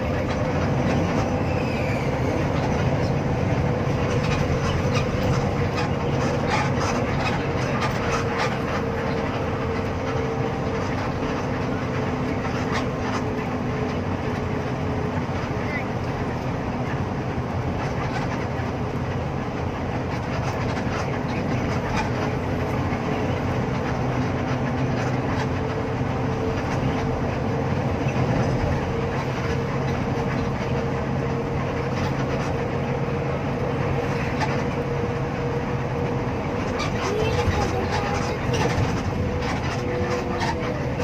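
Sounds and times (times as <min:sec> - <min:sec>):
bus engine drone: 0:00.0 - 0:41.0
tyre and road noise: 0:00.0 - 0:41.0.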